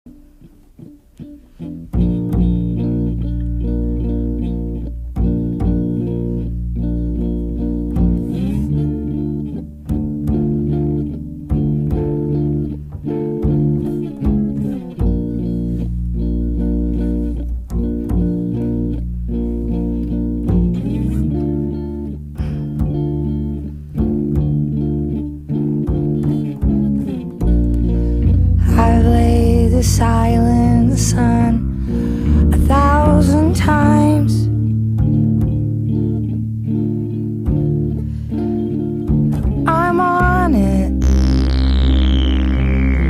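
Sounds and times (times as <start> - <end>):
instrumental guitar and bass music: 0.0 - 43.0.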